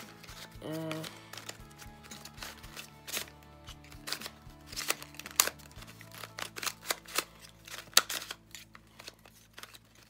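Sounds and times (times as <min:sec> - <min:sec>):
puzzle cube clicking: 0:00.0 - 0:10.0.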